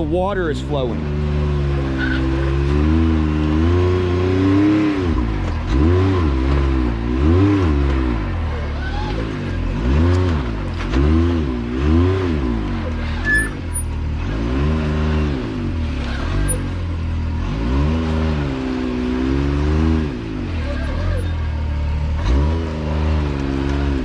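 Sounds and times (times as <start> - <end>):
engine revving: 0.0 - 24.0.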